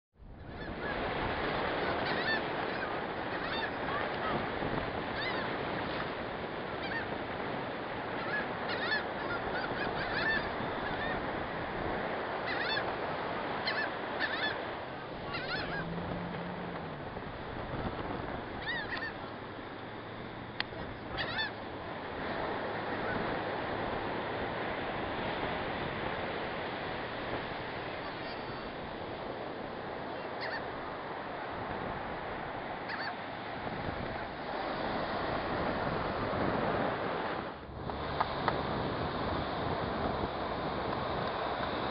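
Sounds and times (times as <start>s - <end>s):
gulls calling: 0.4s - 36.1s.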